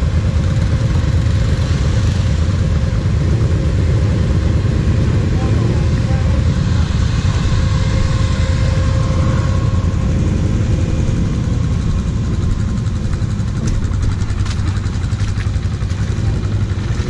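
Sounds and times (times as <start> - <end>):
quad engine idling: 0.0 - 17.0.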